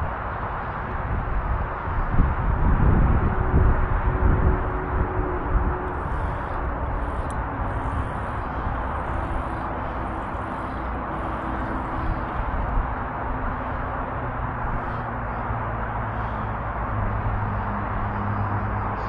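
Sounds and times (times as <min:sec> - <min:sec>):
low rumble: 0:00.8 - 0:19.0
faint hum: 0:02.2 - 0:19.0.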